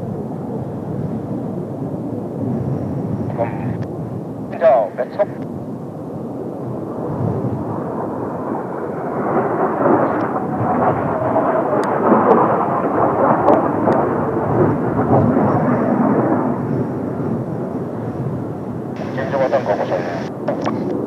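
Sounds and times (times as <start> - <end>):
jet engines roaring past: 0.0 - 21.0.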